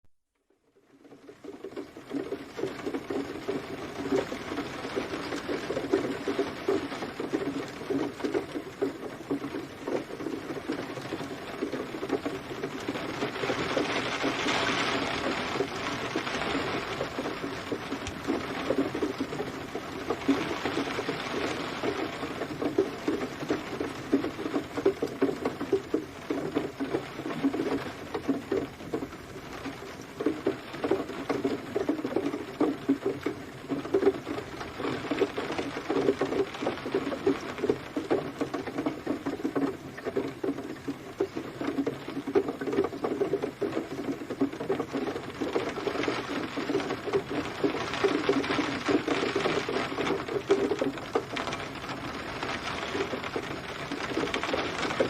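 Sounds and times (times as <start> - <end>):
rain pattering on hard surface: 0.4 - 55.0.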